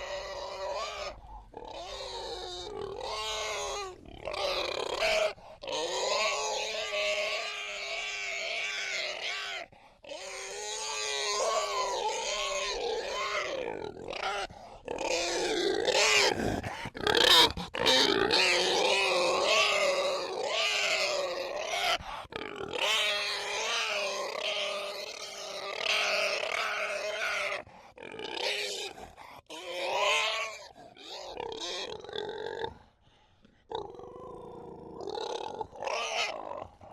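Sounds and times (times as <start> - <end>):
pig grunting and squealing: 0.0 - 36.9.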